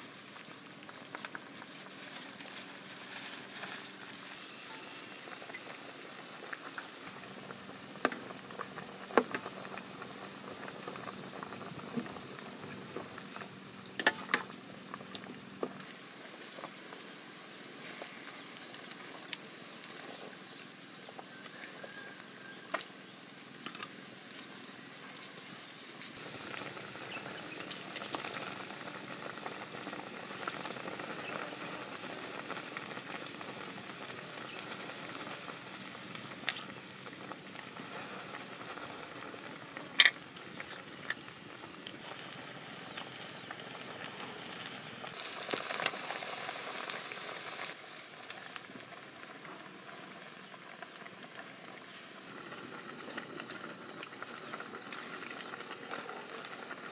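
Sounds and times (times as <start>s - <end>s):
broth boiling with bubbling hiss: 0.0s - 56.9s.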